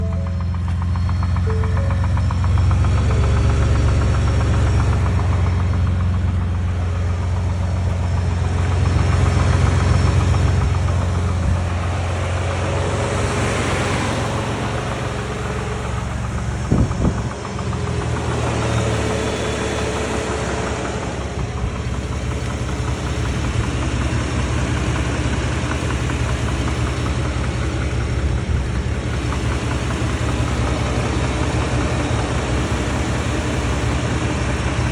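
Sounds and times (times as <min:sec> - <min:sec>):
engine idling: 0:00.0 - 0:34.9
rapid knocking from engine: 0:00.0 - 0:34.9.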